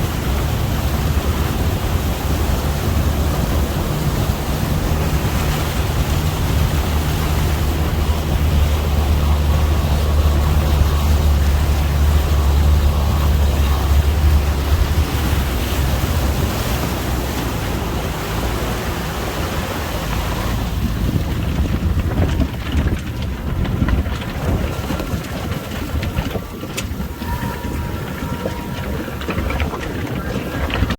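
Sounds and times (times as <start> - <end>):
engine drone: 0.0 - 30.9
water noise: 0.0 - 30.9
wind buffeting microphone: 0.0 - 30.9.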